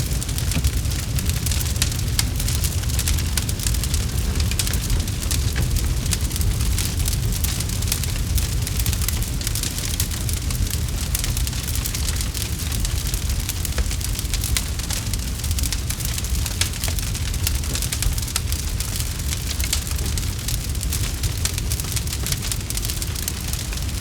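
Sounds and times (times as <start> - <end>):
campfire burning and crackling: 0.0 - 24.0.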